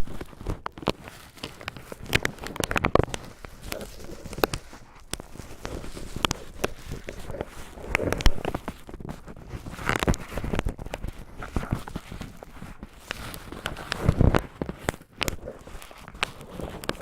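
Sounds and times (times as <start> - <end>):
cotton swabs crinkling on microphone: 0.0 - 17.0.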